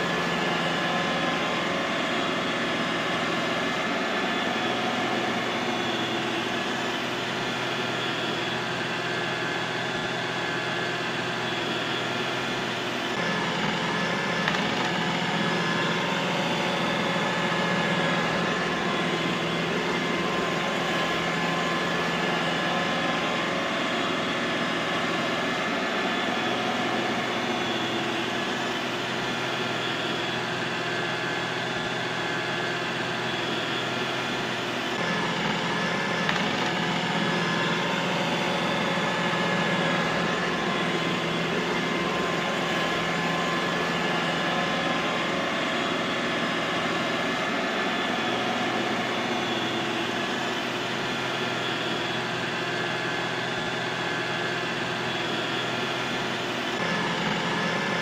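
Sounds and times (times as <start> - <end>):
robot vacuum cleaner running: 0.0 - 58.0.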